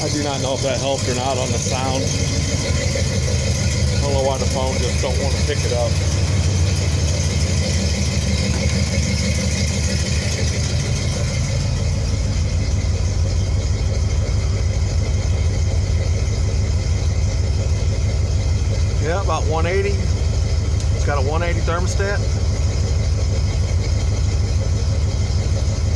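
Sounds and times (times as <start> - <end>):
engine idling: 0.0 - 25.9.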